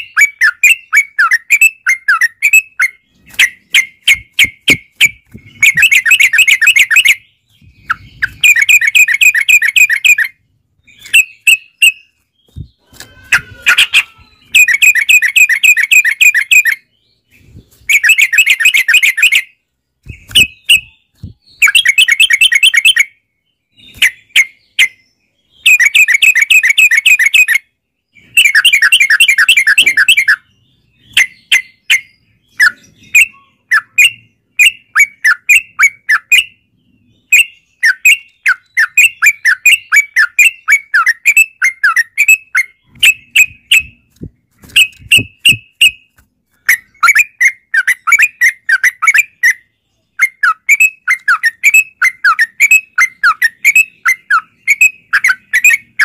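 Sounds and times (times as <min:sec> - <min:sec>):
bird chattering trills: 0:00.0 - 0:16.9, 0:20.1 - 0:23.0, 0:28.2 - 0:36.6, 0:37.2 - 0:56.0.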